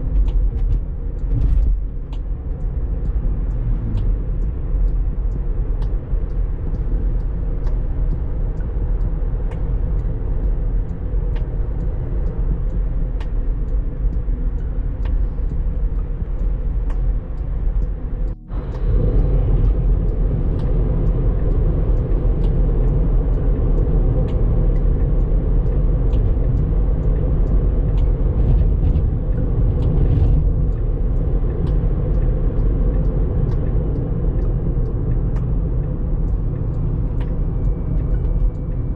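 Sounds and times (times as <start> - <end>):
faint ticks: 0.0 - 38.9
road and tyre rumble: 0.0 - 38.9.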